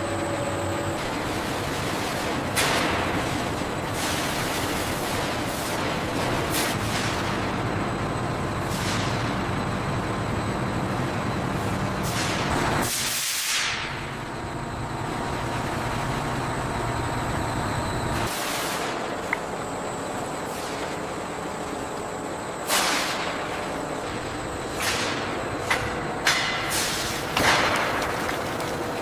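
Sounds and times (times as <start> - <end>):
steady machinery noise: 0.0 - 29.0.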